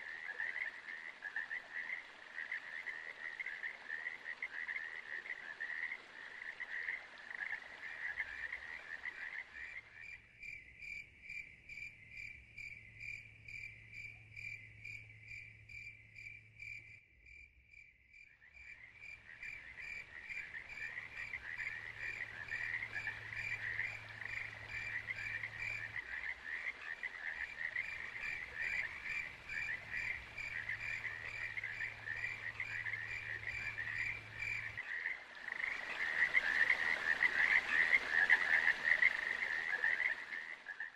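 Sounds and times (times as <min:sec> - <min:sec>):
frogs croaking: 0:00.0 - 0:40.9.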